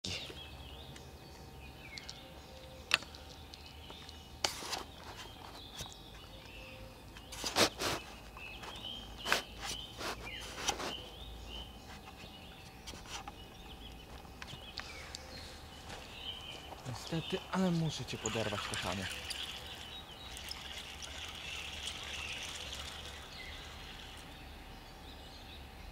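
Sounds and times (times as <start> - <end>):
bird calls: 0.0 - 25.9.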